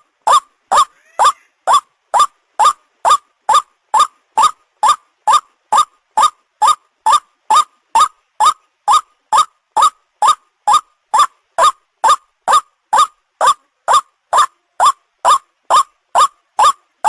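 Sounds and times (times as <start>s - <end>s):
waterhen call: 0.0s - 16.8s.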